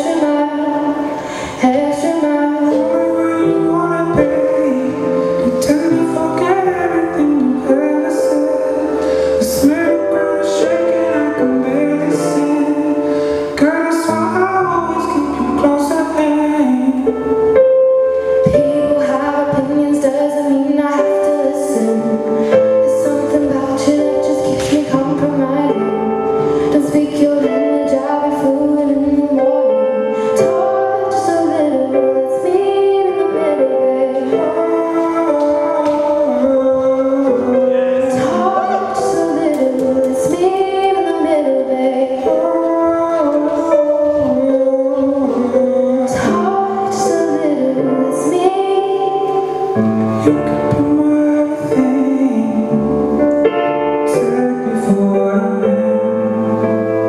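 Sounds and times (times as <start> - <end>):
song with singing voice: 0.0 - 57.0.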